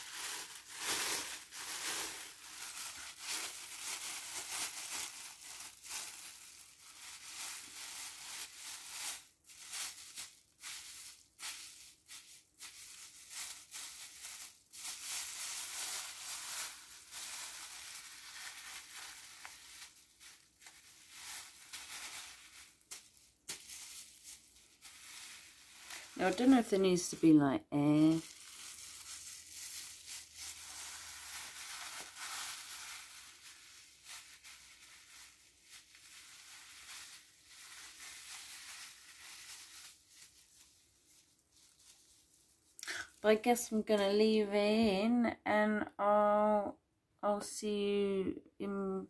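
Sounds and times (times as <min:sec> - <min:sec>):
plastic bag crinkling: 0:00.0 - 0:44.4.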